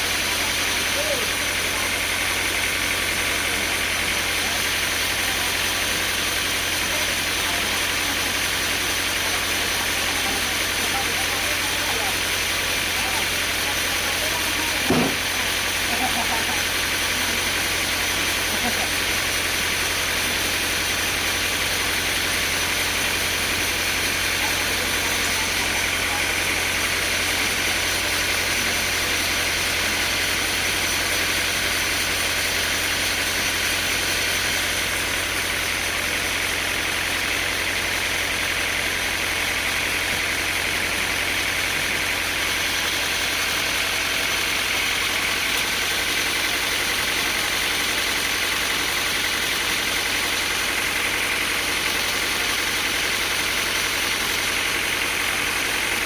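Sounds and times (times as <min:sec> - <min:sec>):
sawmill machinery droning: 0:00.0 - 0:56.0.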